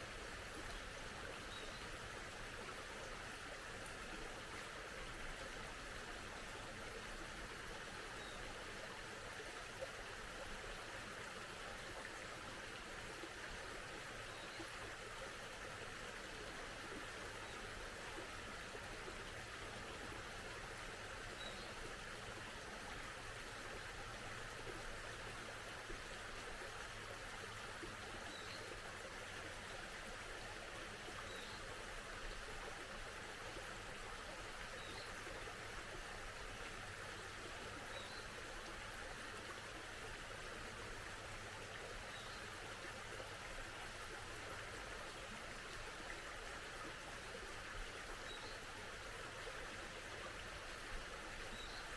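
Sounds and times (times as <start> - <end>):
stream running: 0.0 - 51.9.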